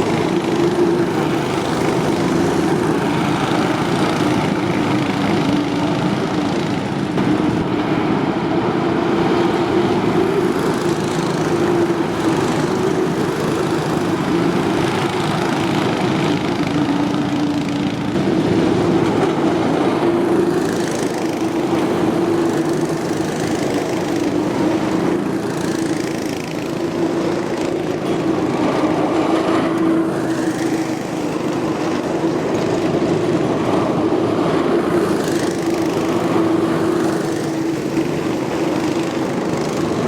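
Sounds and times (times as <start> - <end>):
small single-cylinder engine running: 0.0 - 40.0.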